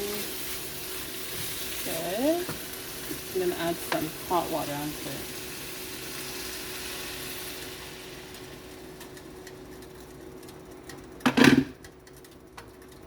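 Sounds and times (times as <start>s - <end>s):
chicken sizzling in hot oil: 0.0s - 11.7s.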